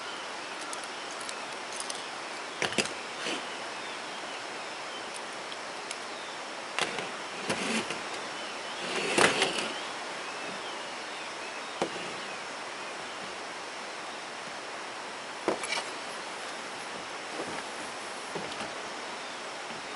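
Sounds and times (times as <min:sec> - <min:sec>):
steady hiss: 0:00.0 - 0:19.9.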